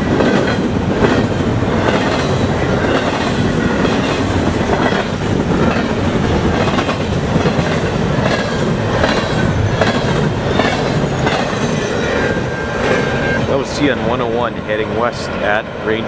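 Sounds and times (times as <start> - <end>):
wheels clacking over track: 0.0 - 13.2
freight train wheels rushing on rail: 0.0 - 16.0.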